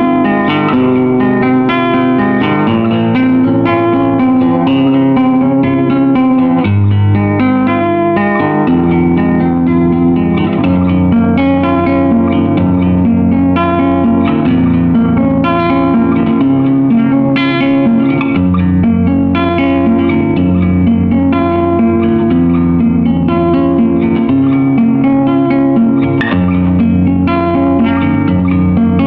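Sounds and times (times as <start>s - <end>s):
plucked guitar music: 0.0s - 29.0s.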